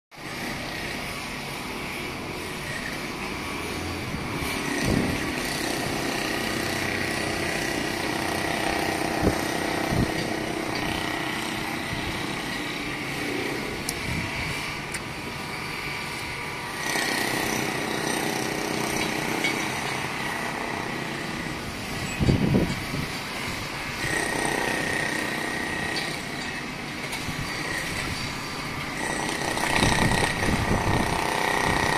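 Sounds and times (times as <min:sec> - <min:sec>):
distant traffic hum: 0:00.2 - 0:31.9.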